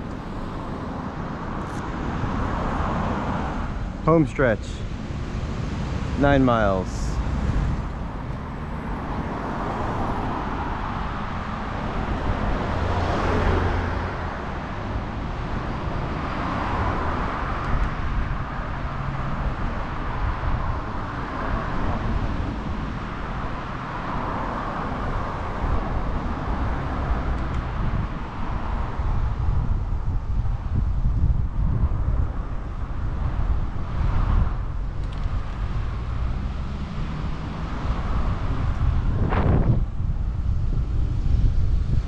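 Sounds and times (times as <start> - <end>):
cars passing: 0.0 - 42.0
wind rumble on microphone: 0.0 - 42.0.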